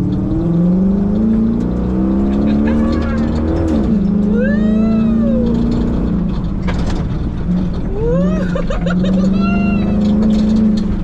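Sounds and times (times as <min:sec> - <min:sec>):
car engine droning: 0:00.0 - 0:11.0
knocks and rattles from rough ground: 0:00.0 - 0:11.0.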